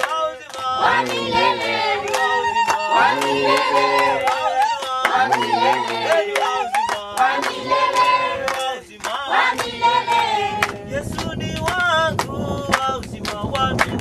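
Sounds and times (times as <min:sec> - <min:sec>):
group singing a hymn: 0:00.0 - 0:12.6
hand claps: 0:00.0 - 0:14.0.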